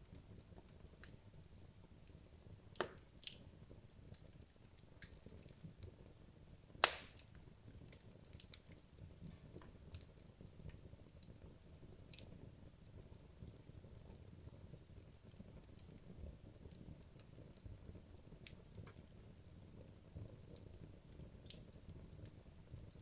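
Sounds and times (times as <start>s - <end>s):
fire crackles and pops: 0.0s - 23.0s.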